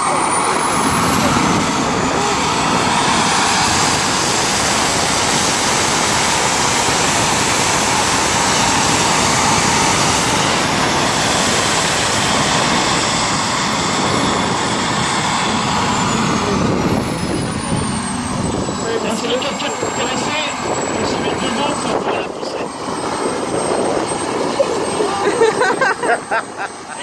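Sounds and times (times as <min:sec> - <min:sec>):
high whine falling in pitch: 0:00.0 - 0:27.0
model jet turbine roaring: 0:00.0 - 0:27.0.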